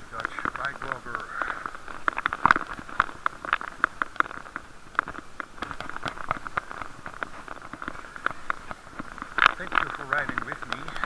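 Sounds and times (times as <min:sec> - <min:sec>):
bicycle clicks and rattles: 0:00.0 - 0:11.0
muffled hiss: 0:00.0 - 0:11.0.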